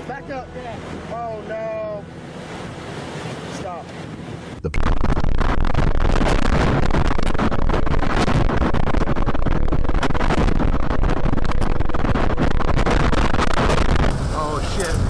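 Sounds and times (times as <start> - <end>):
wind buffeting microphone: 0.7 - 15.0.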